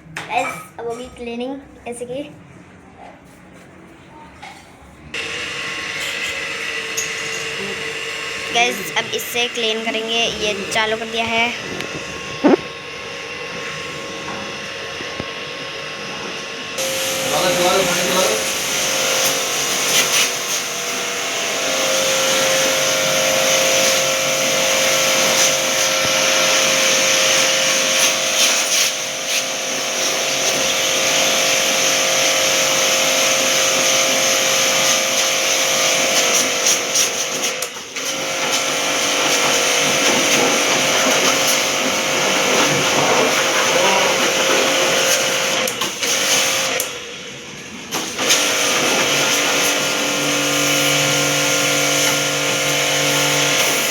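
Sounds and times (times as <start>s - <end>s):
cleaning machine motor whine: 5.2s - 53.9s.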